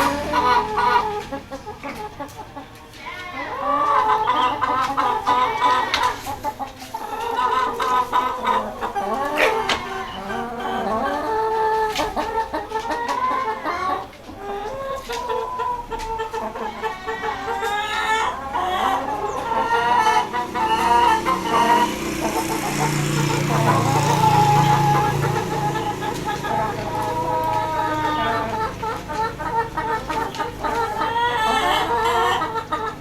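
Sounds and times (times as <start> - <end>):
chickens clucking and calling: 0.0 - 33.0.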